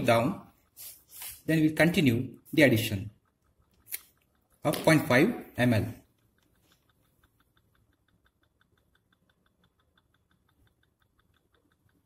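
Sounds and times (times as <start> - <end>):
rapid regular ticking: 0.0 - 12.0.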